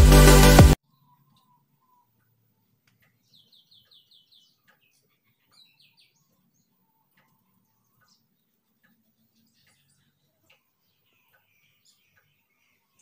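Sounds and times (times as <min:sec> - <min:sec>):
faint bird chirping: 0:00.8 - 0:13.0.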